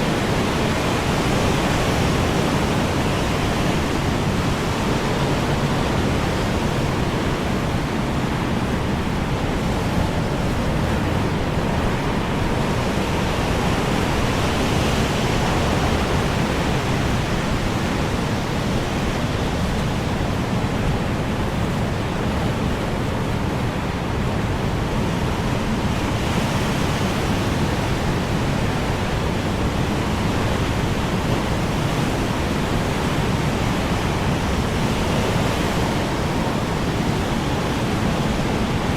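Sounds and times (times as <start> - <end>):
strong wind roaring: 0.0 - 38.9.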